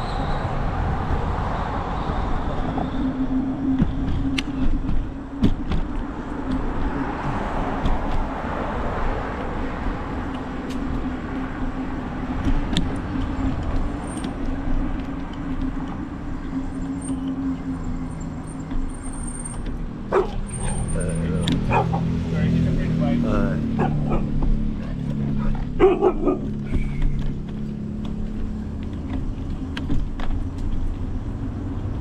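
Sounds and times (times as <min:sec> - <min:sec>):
wind and tyres rushing: 0:00.0 - 0:32.0.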